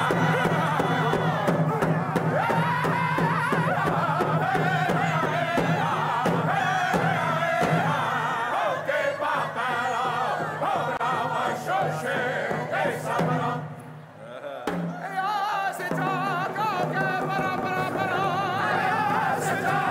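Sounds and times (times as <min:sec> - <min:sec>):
frame drums beating: 0:00.0 - 0:08.4, 0:09.4 - 0:19.9
group chanting in unison: 0:00.0 - 0:19.9.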